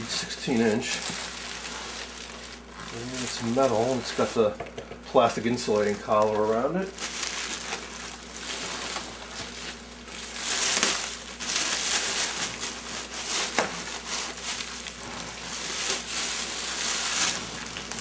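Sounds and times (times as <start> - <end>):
plastic bags rustling and crinkling: 0.0 - 18.0.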